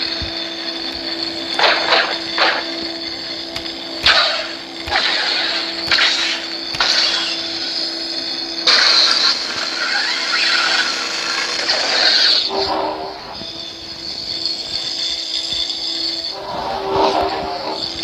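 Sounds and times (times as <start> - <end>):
lightsaber electronic hum: 0.0 - 18.0.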